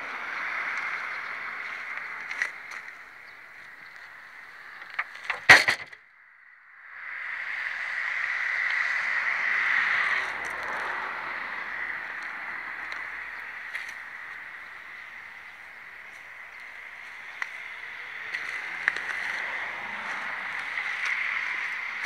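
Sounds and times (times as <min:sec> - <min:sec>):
steady rushing noise: 0:00.0 - 0:05.9, 0:06.8 - 0:22.0.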